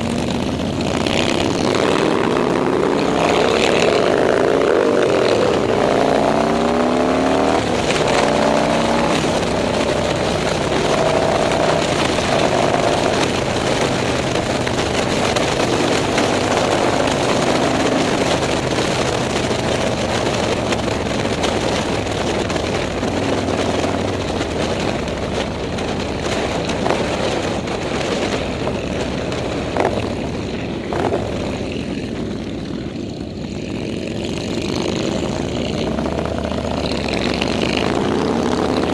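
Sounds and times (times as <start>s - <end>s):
motorcycle engines passing: 0.0s - 38.9s
road rumble: 0.0s - 38.9s.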